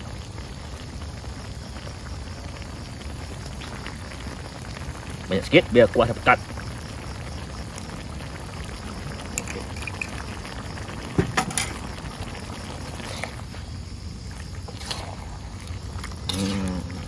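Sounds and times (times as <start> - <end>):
stew bubbling in a wok: 0.0 - 17.0.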